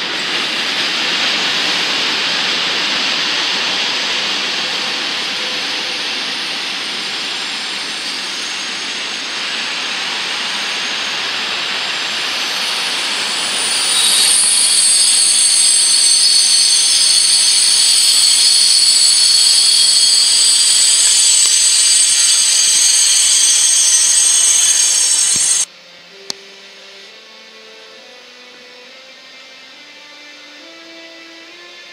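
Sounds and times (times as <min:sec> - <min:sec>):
high wheel squeal: 0:00.0 - 0:25.7.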